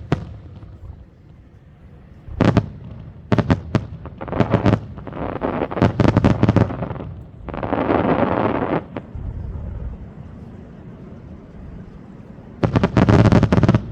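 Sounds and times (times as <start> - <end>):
crackling hiss: 0.0 - 13.9.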